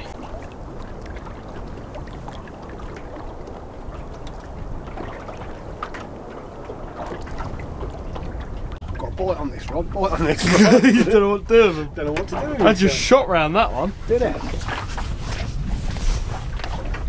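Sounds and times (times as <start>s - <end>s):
steady low rumble: 0.0s - 14.1s
sea water splashing against boat: 0.0s - 17.0s.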